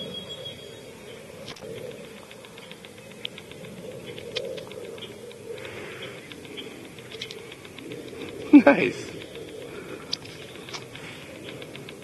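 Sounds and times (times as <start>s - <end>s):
rapid small clicks and ticks: 0.0s - 12.0s
steady low hum: 0.0s - 12.0s.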